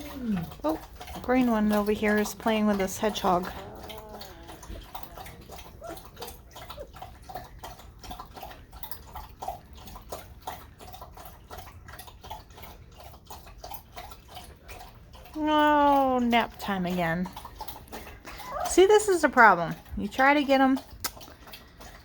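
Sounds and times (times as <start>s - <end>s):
puppies chewing toys: 0.0s - 22.0s.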